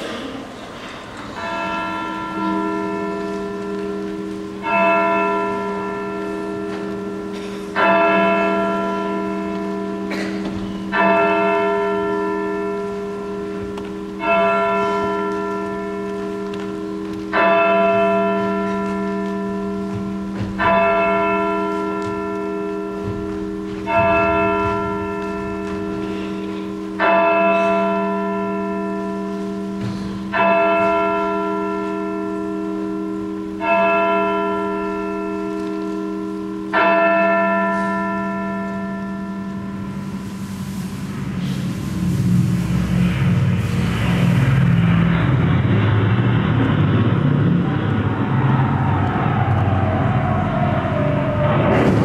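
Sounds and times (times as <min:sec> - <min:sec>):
large bell tolling: 0:01.2 - 0:52.0.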